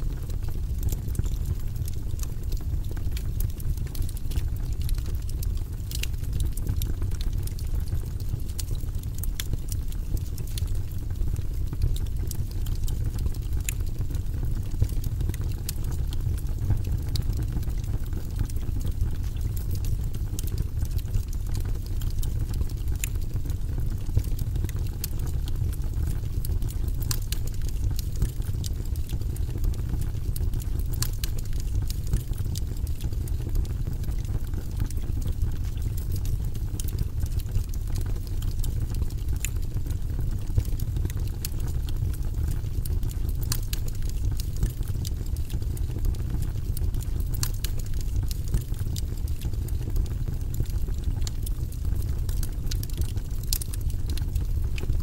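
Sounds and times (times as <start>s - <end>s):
flames rumbling: 0.0s - 55.0s
logs crackling and popping: 0.0s - 55.0s.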